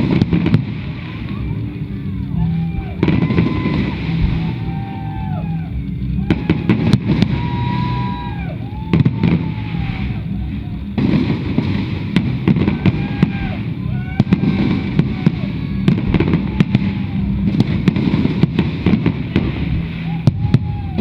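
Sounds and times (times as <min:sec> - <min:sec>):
fireworks bangs and crackles: 0:00.0 - 0:21.0
steady low rumble: 0:00.0 - 0:21.0.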